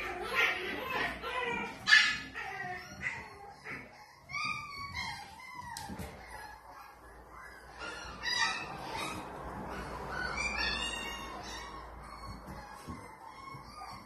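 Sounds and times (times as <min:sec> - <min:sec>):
puppies whining and yipping: 0:00.0 - 0:14.0.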